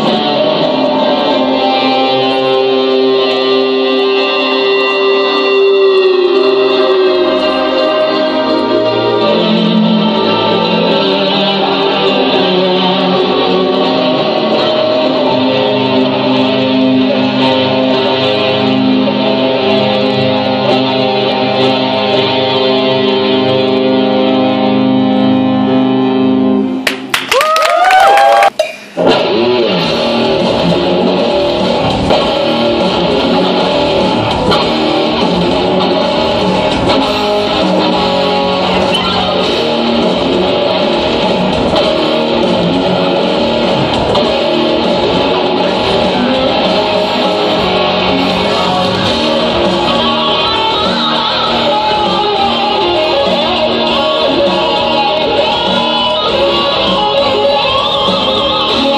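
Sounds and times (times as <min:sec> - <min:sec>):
electric guitar picked notes: 0:00.0 - 0:26.8, 0:28.9 - 0:58.9
instrumental rock band: 0:00.0 - 0:27.1, 0:29.0 - 0:58.9.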